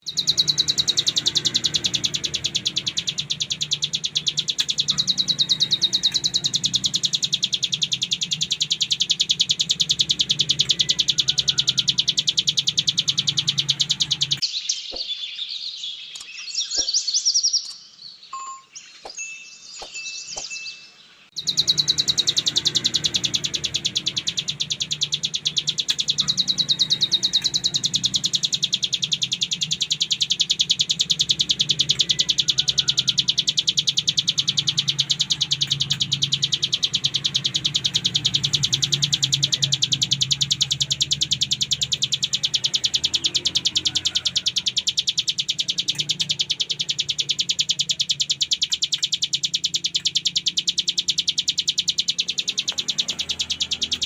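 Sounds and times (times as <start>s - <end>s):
bird chirps and whistles: 0.0s - 54.0s
bird singing buzzing trill: 0.0s - 54.0s.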